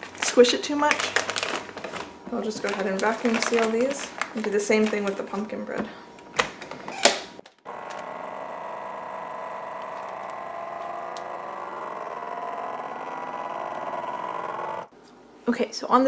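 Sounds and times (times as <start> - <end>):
vacuum pump humming: 0.0 - 15.2.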